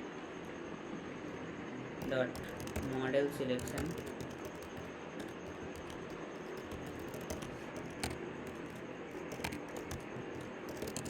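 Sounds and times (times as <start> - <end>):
keyboard keystrokes: 2.0 - 11.0.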